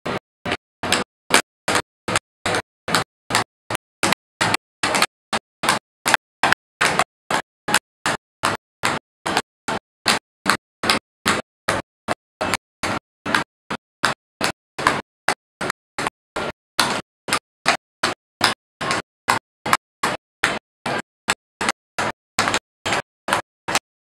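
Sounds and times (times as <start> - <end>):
tap shoes clicking on board: 0.0 - 23.8.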